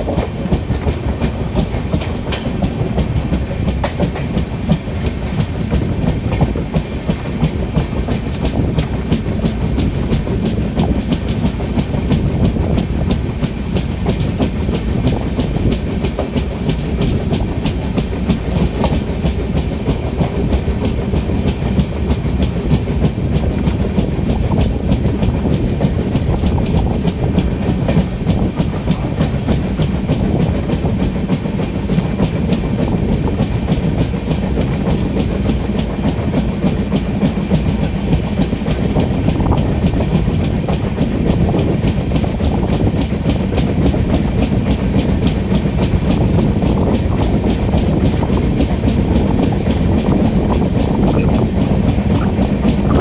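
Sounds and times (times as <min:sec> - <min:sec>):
train rumble: 0:00.0 - 0:53.0.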